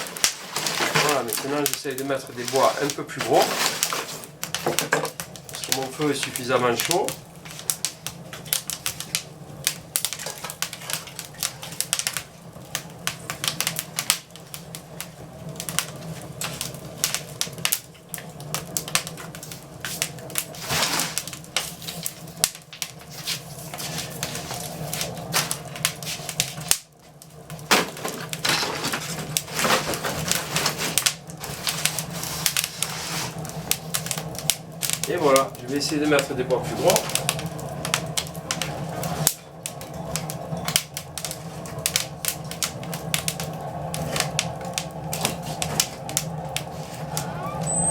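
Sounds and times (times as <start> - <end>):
steady low hum: 0.0 - 47.9
wood fire crackling and popping: 0.0 - 47.9.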